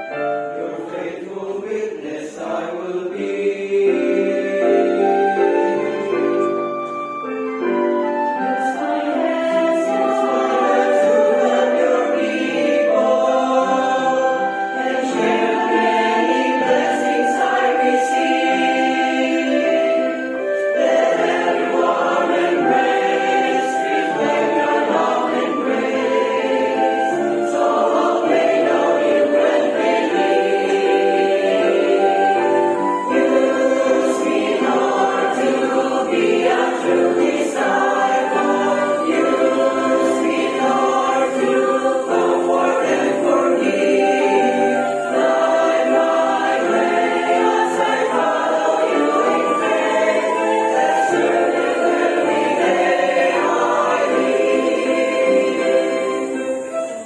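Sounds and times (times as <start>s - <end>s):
choir singing sacred music: 0.0s - 57.0s.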